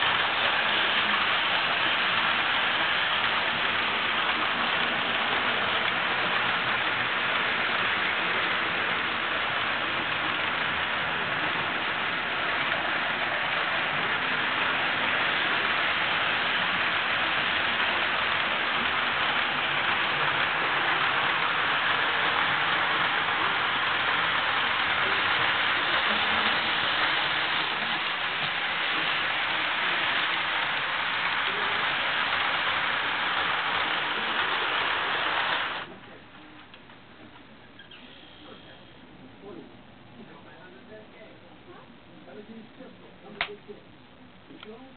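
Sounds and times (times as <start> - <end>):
model train running on track: 0.0 - 36.8.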